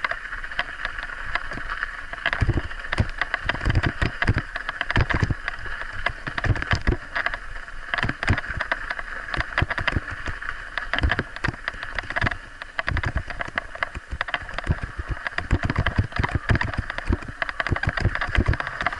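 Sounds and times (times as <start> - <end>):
bike knocks and rattles: 0.0 - 18.9
rushing wind and tyres: 0.0 - 18.9.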